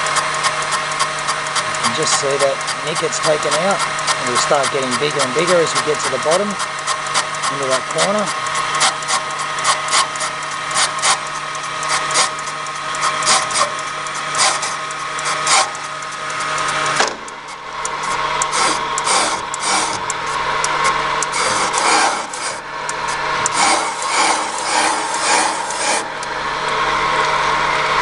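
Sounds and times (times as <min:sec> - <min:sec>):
cutter scraping and chattering on metal: 0:00.0 - 0:26.4
steady motor hum: 0:00.0 - 0:28.0.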